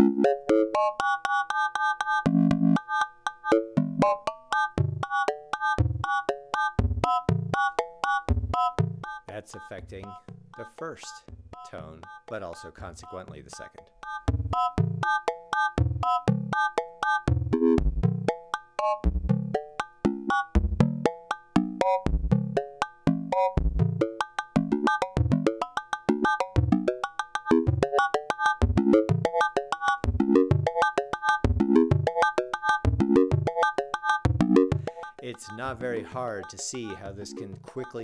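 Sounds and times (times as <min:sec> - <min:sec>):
synthesizer rhythmic percussive notes: 0:00.0 - 0:38.0.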